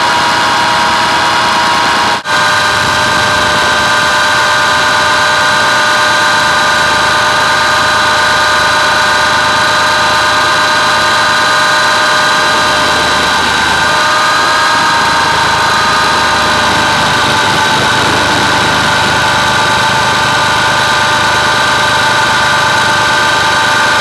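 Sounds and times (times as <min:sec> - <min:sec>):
constant rushing noise: 0:00.0 - 0:24.0
model helicopter motor whine: 0:00.0 - 0:24.0.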